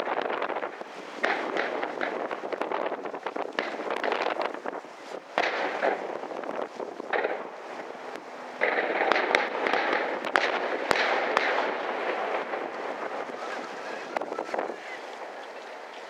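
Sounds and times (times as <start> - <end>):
fireworks bangs: 0.0 - 15.9
fireworks crackling: 0.0 - 16.0.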